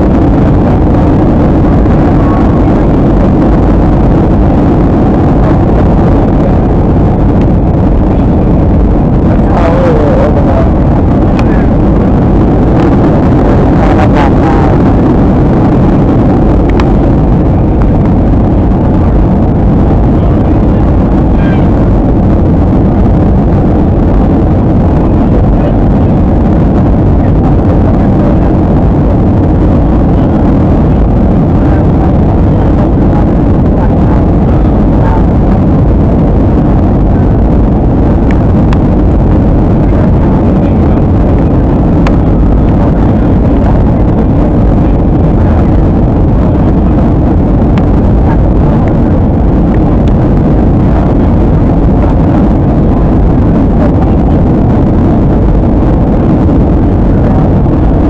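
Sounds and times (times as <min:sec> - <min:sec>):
jet engine roar in cabin: 0:00.0 - 0:58.0.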